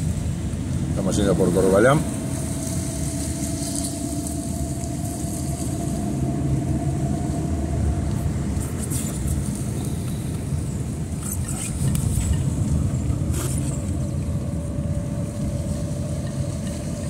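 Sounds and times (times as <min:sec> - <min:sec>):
engine and tyres rumbling: 0:00.0 - 0:17.0
faint steady hum: 0:00.0 - 0:17.0.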